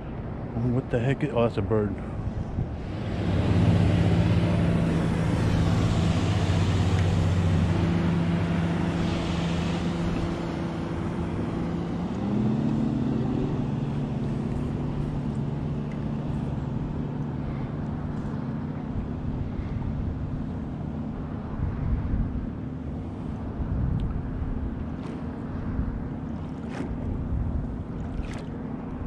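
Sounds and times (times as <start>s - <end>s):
passing engine droning: 1.9s - 29.0s.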